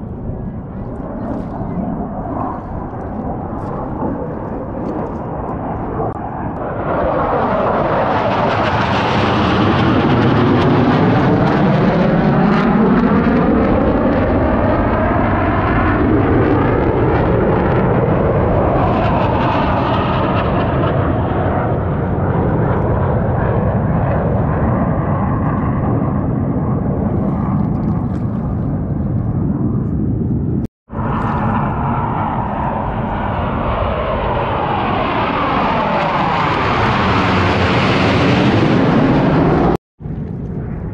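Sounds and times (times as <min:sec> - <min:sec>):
jets flying past: 0:00.0 - 0:40.9.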